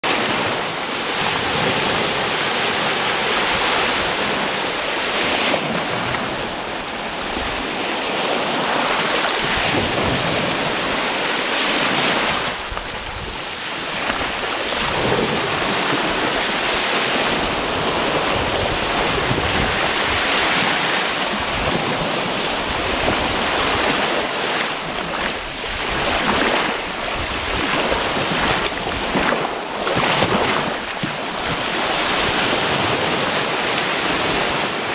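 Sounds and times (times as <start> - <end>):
waves breaking on a beach: 0.0 - 34.9
wind buffeting microphone: 0.2 - 34.9.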